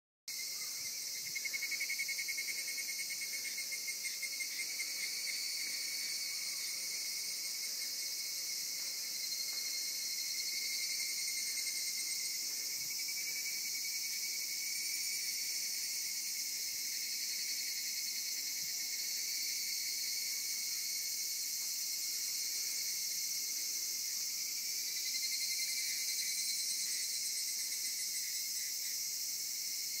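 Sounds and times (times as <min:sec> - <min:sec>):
insects trilling: 0:00.3 - 0:30.0
pulsing lower insect trill: 0:00.3 - 0:30.0.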